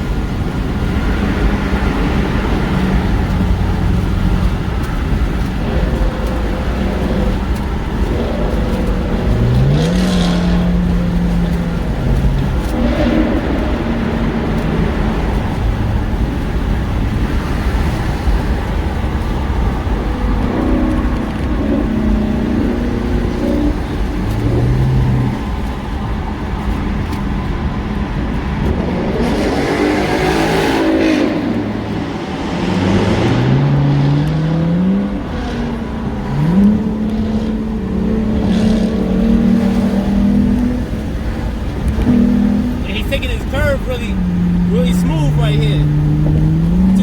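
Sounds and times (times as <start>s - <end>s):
car engine accelerating: 0.0s - 47.0s
road and wind rumble: 0.0s - 47.0s
vehicle passing: 0.0s - 47.0s.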